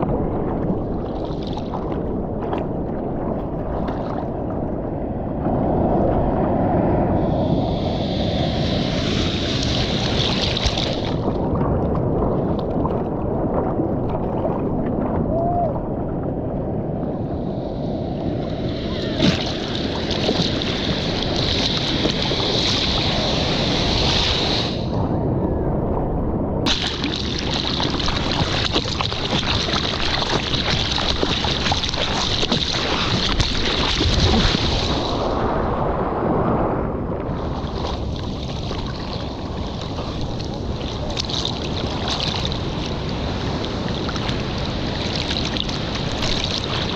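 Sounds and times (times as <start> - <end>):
sea water rushing and splashing: 0.0 - 46.9.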